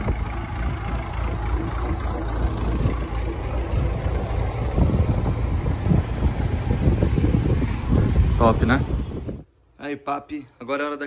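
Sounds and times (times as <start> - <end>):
tractor engine running: 0.0 - 9.4.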